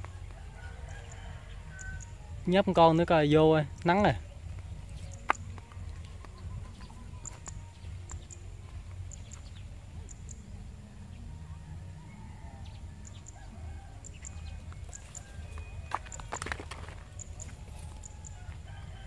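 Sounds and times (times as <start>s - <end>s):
steady low rumble: 0.0s - 16.0s
distant chickens clucking: 0.0s - 19.0s.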